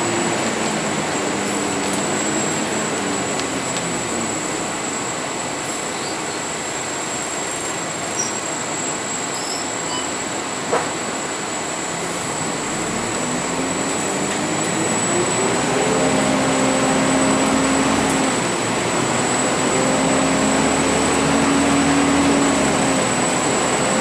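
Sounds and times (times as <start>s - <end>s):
bus engine accelerating: 0.0s - 9.1s, 10.2s - 24.0s.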